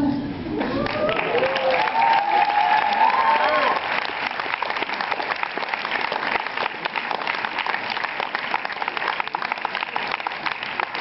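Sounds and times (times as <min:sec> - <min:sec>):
audience applauding: 0:00.7 - 0:11.0.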